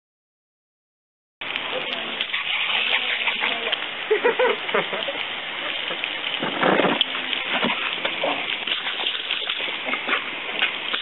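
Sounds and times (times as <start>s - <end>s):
hose water spraying and splashing: 1.4s - 11.0s.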